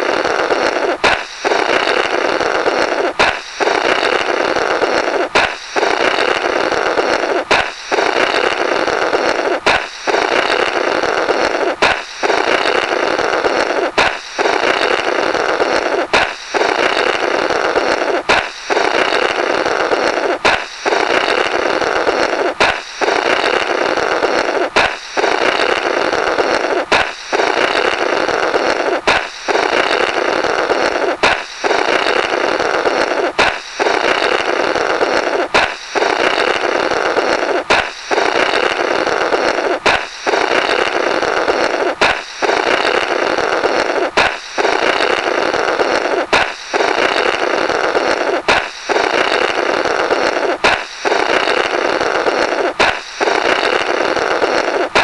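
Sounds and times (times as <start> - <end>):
balloon pop: 0.0 - 4.4, 5.0 - 15.2, 15.8 - 21.5, 22.2 - 45.2, 45.9 - 47.4, 48.0 - 51.8, 52.4 - 55.0
buzzing blow through rubber: 0.0 - 55.0.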